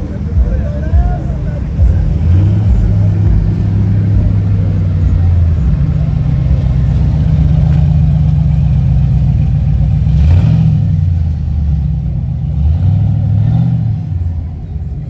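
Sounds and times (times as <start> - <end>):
car engine revving lightly: 0.5 - 15.0.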